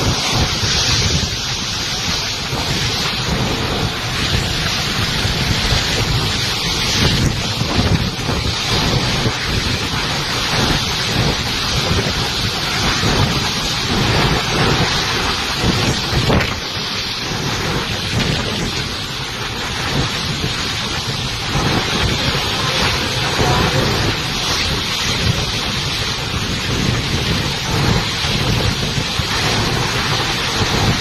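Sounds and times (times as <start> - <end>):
heavy rain pouring: 0.0 - 31.0
strong wind gusts: 0.0 - 31.0
wind buffeting microphone: 0.0 - 31.0.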